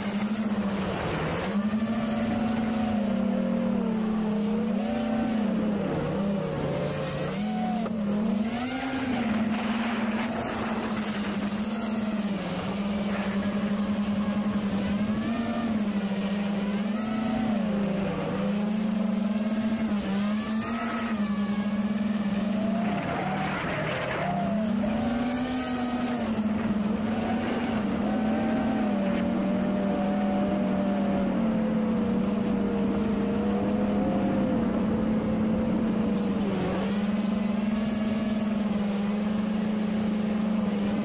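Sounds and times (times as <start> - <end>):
drone motors and propellers whining: 0.0 - 41.0.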